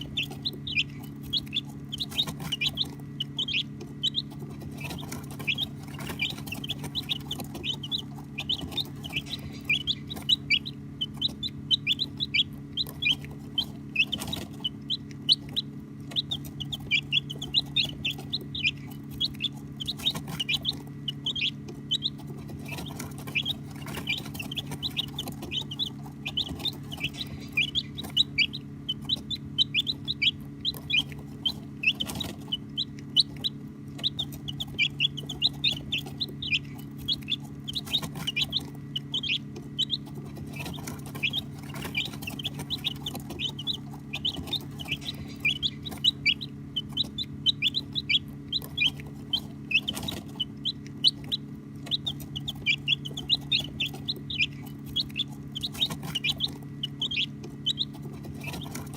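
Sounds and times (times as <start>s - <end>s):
baby chicks peeping: 0.0s - 58.9s
steady low hum: 0.0s - 58.9s.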